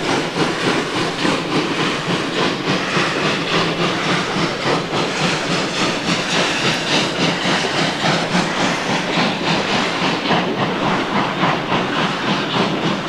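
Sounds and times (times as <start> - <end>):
hiss of steam: 0.0 - 13.0
steam locomotive beating: 0.0 - 13.0.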